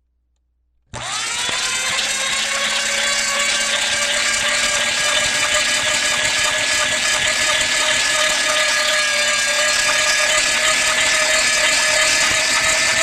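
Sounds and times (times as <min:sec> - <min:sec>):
electric power tool motor whining: 0:00.9 - 0:13.0.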